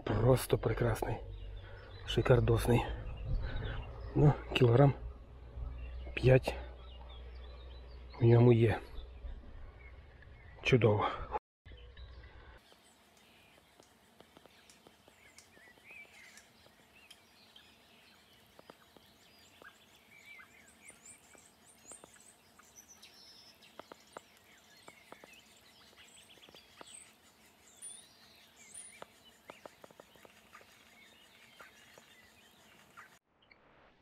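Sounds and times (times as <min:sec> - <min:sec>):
small birds chirping: 0:00.0 - 0:33.6.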